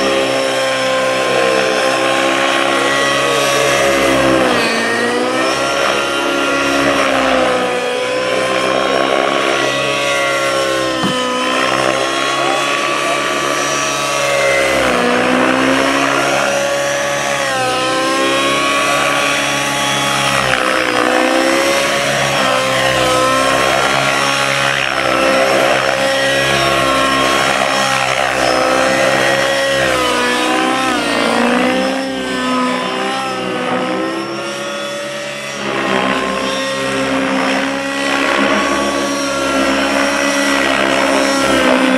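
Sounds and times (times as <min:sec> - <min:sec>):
model helicopter engine and rotor whine: 0:00.0 - 0:41.9.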